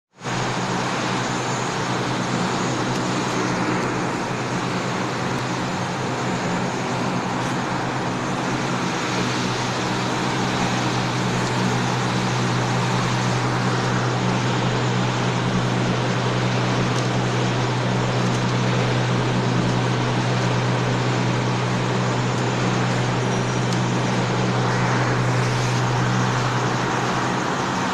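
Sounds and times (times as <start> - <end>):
low motor hum: 0.2 - 27.9
machinery whirring: 0.2 - 27.9.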